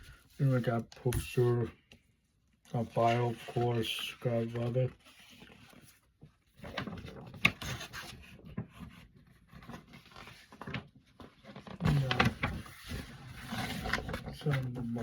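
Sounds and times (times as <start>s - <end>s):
paper rustling: 2.6s - 15.0s.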